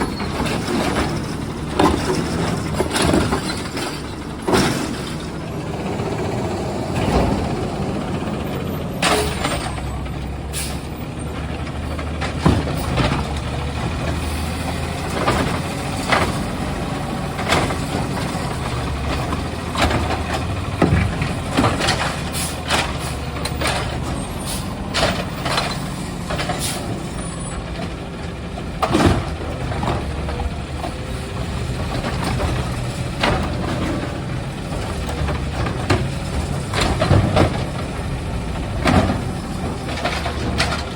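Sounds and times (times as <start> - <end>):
garbage truck engine running: 0.0 - 40.9.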